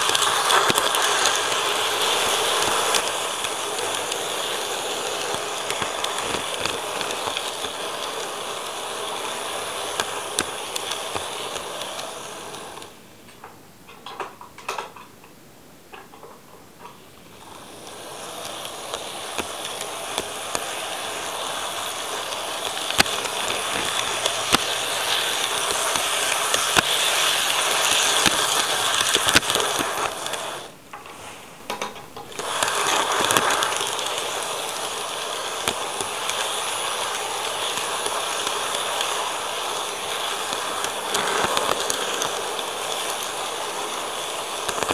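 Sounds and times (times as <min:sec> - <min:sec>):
model train whirring rattle: 0:00.0 - 0:13.0, 0:16.8 - 0:44.9
wheels clicking over rail joints: 0:00.0 - 0:15.3, 0:15.9 - 0:44.9.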